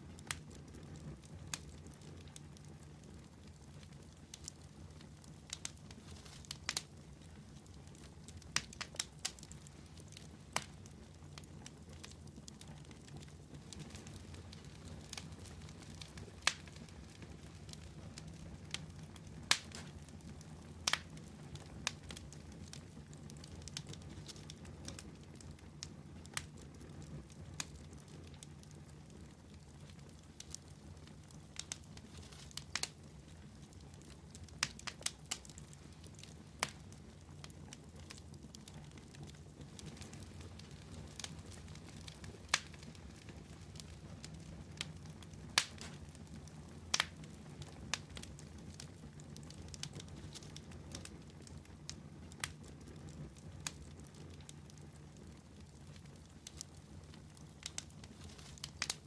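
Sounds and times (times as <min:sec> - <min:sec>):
campfire logs popping and crackling: 0:00.0 - 0:59.0.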